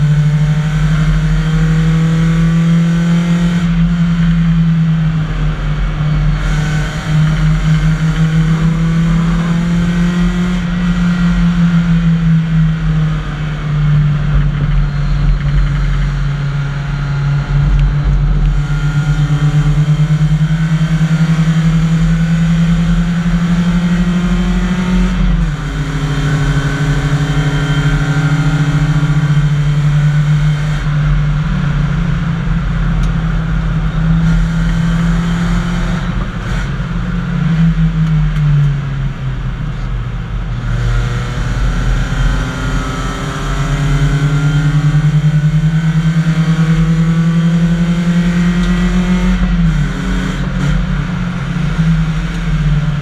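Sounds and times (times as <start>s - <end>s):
race car engine running hard: 0.0s - 53.0s.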